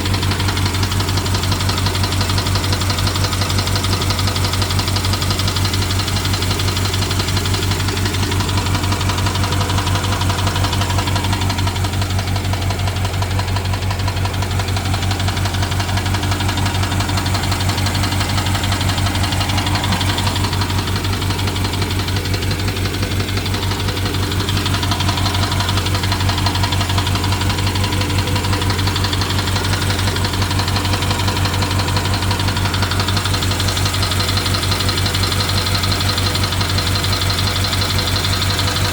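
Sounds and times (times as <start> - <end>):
car engine idling: 0.0 - 38.9
fast continuous engine ticking: 0.0 - 38.9.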